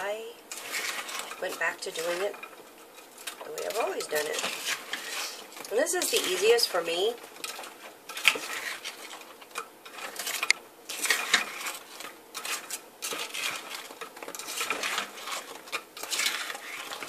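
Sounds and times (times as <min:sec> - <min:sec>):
frozen cubes clinking in glass bowl: 0:00.0 - 0:17.0.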